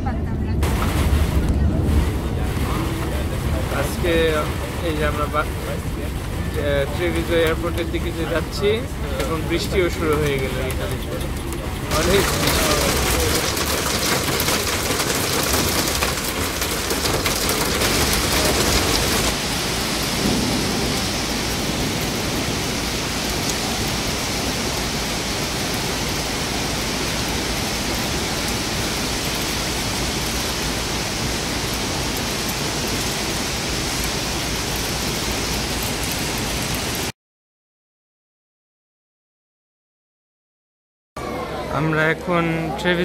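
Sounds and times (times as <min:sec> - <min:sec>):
steady heavy rain: 0:00.0 - 0:37.2, 0:41.2 - 0:43.0
hail rattling on windscreen: 0:00.6 - 0:37.1.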